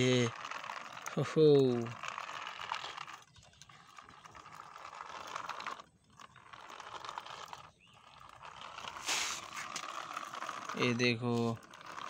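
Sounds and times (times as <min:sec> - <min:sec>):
toy electric motor whirring: 0:00.0 - 0:12.0.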